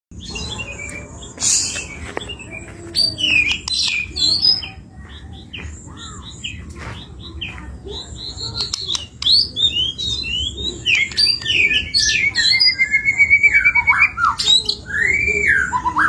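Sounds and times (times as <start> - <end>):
songbird whistling song: 0.2 - 16.0.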